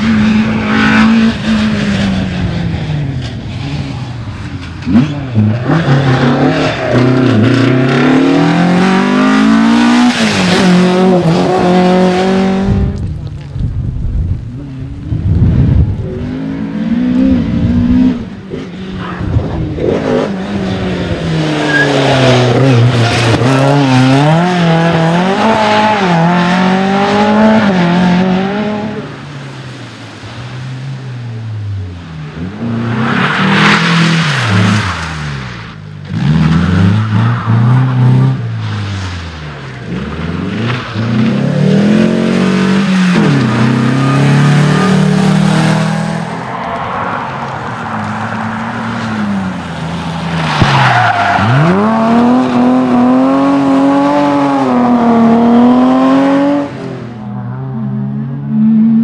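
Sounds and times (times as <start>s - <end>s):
rally car engines revving: 0.0s - 13.5s, 14.4s - 59.0s.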